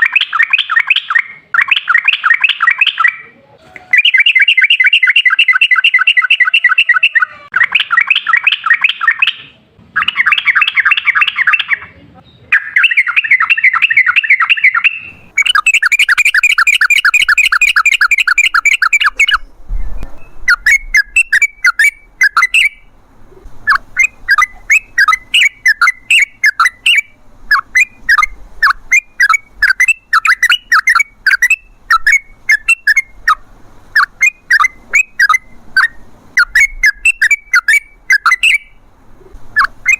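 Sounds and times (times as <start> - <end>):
short sharp repeated bird notes: 0.0 - 3.3, 4.0 - 11.9, 12.5 - 33.4, 34.0 - 39.9
bird singing chattering phrases: 0.0 - 39.9.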